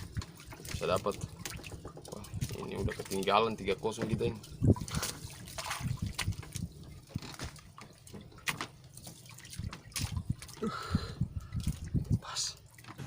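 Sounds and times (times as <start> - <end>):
water lapping and dripping: 0.0 - 13.0.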